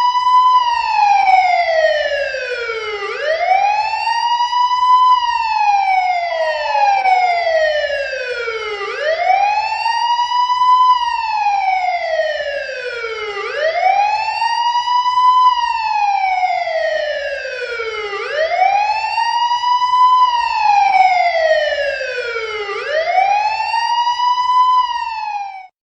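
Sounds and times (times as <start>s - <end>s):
police car siren wailing: 0.0s - 25.7s.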